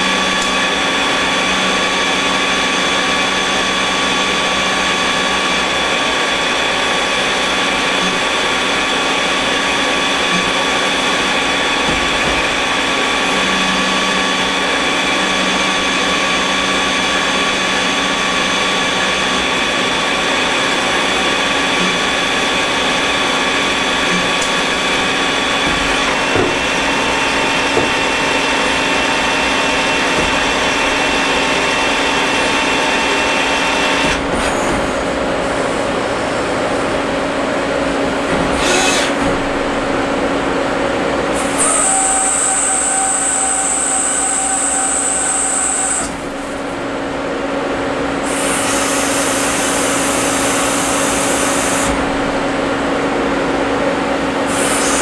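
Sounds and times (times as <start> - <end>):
lathe machine whine cutting metal: 0.0 - 55.0.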